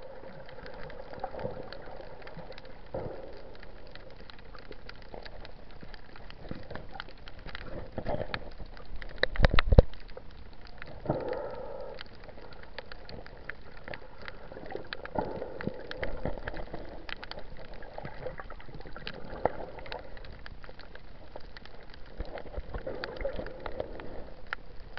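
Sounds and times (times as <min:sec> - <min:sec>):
muffled underwater wash: 0:00.0 - 0:24.9.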